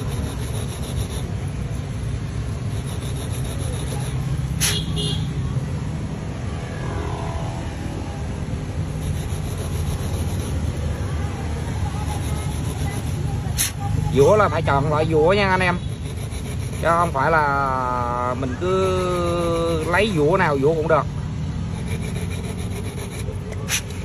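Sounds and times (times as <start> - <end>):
file rasping on metal wheel: 0.0 - 5.0, 8.8 - 24.0.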